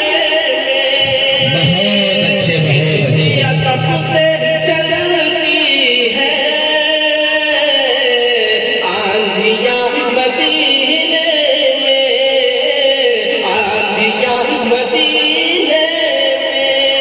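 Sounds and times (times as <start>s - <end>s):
person singing devotional poem over loudspeaker: 0.0s - 17.0s.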